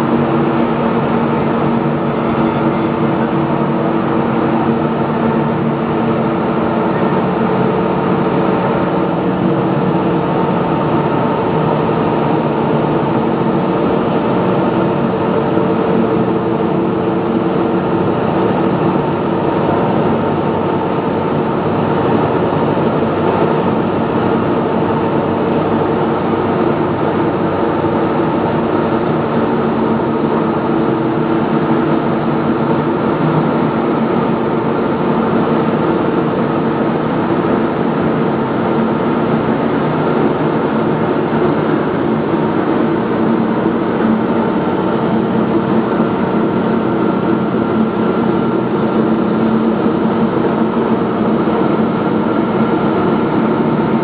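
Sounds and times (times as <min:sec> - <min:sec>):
loud machinery drone: 0:00.0 - 0:54.0
noisy rush: 0:00.0 - 0:54.0
steady hum tones: 0:00.0 - 0:54.0.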